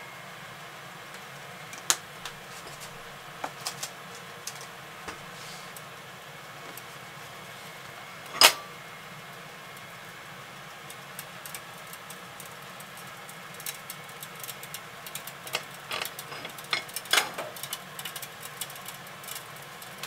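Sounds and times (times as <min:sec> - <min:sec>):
gas burner hissing: 0:00.0 - 0:20.0.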